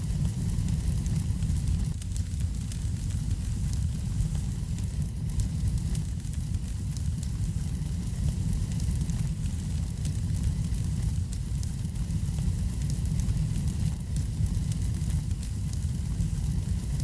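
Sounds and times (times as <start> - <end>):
fire crackling: 0.0 - 17.0
fire rumbling: 0.0 - 17.0.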